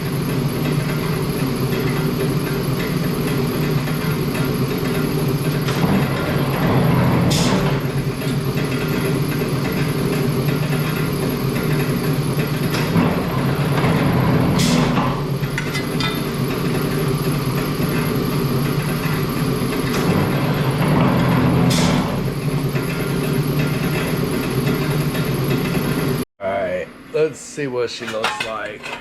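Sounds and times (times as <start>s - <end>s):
press brake motor humming: 0.0s - 26.2s.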